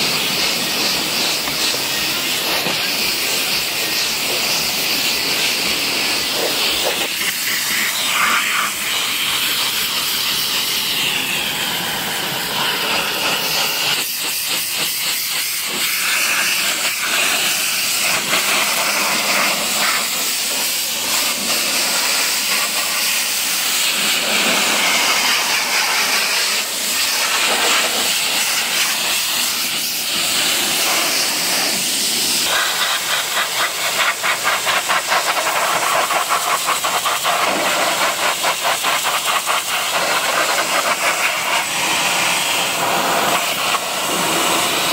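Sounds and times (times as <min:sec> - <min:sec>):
pressure washer spray hiss: 0:00.0 - 0:44.9.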